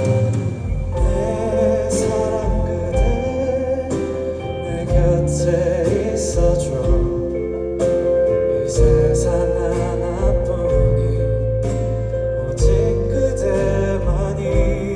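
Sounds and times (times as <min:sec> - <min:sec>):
live band playing ballad: 0:00.0 - 0:14.9
person singing: 0:00.0 - 0:14.9.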